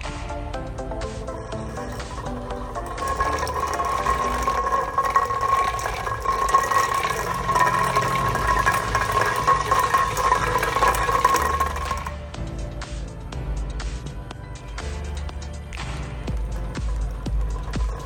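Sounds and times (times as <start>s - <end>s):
rattling crackling noise: 0.0s - 18.0s.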